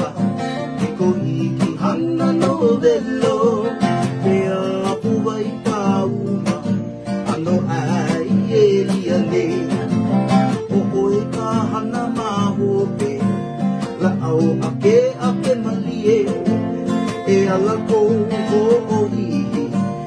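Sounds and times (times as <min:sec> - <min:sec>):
acoustic guitars strumming: 0:00.0 - 0:20.0.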